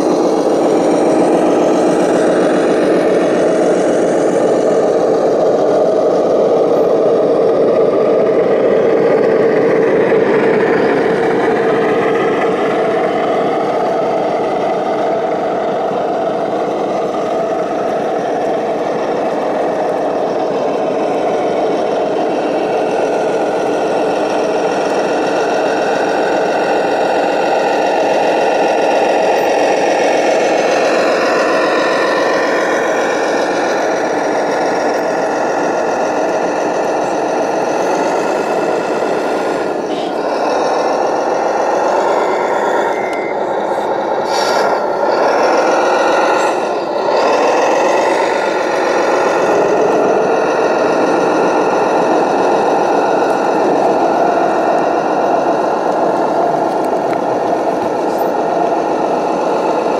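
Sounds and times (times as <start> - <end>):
model truck engine drone: 0.0 - 59.9.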